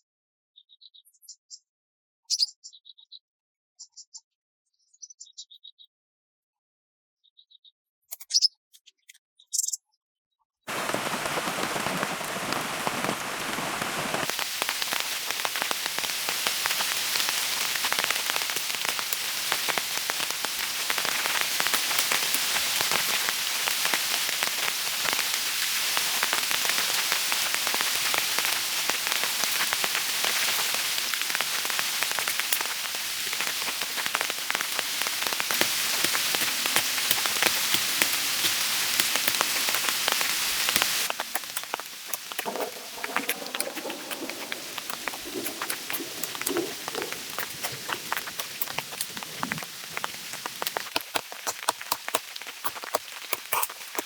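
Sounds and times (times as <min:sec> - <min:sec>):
steady rain: 0:10.7 - 0:54.0.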